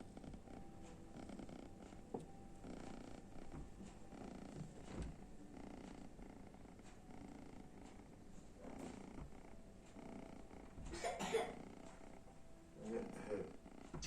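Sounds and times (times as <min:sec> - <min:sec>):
kitten purring: 0:00.0 - 0:10.9, 0:11.5 - 0:14.0.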